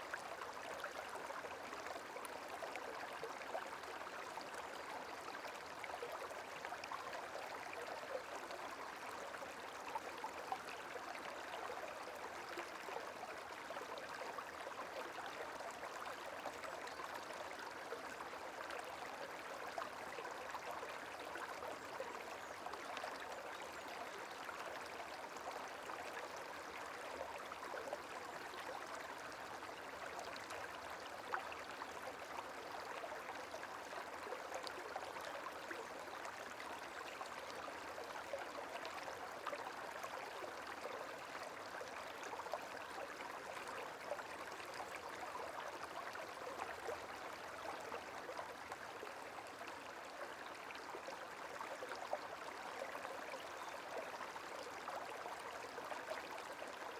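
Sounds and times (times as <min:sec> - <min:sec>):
babbling stream: 0:00.0 - 0:56.9.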